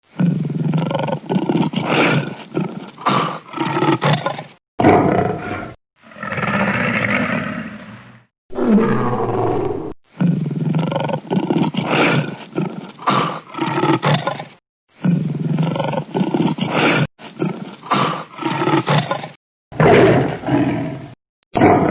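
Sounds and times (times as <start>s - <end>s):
lion roaring: 0.1s - 14.4s, 15.0s - 21.9s.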